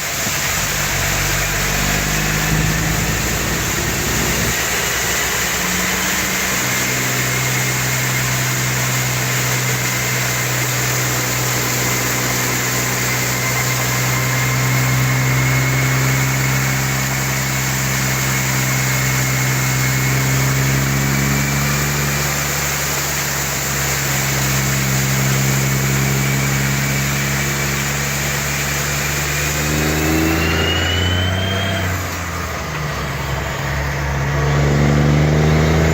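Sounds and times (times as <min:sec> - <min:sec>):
engine running: 0:00.0 - 0:35.9
thin high whine: 0:00.0 - 0:35.9.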